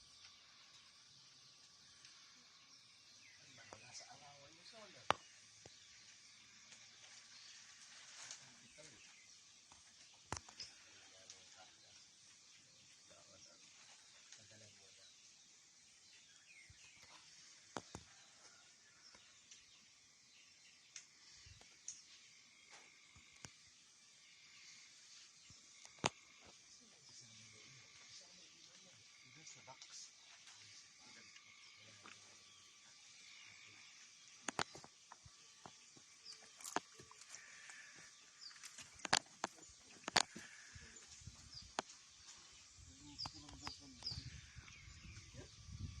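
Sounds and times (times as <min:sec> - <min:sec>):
faint high bird chirps: 0:00.0 - 0:46.0
steady hiss: 0:00.0 - 0:46.0.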